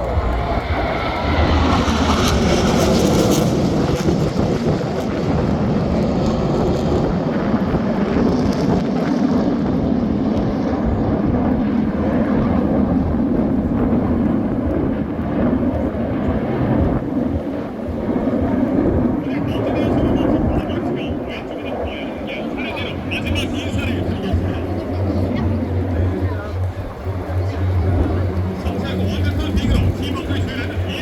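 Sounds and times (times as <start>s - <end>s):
jets flying past: 0.0s - 31.0s.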